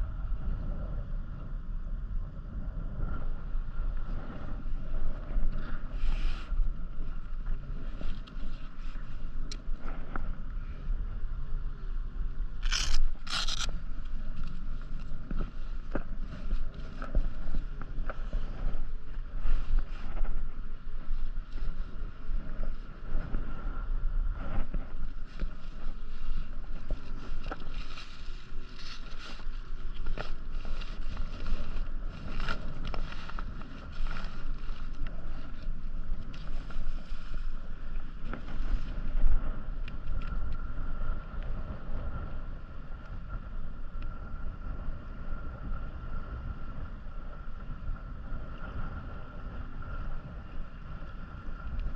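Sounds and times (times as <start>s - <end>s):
wind rumbling on microphone: 0.0s - 51.9s.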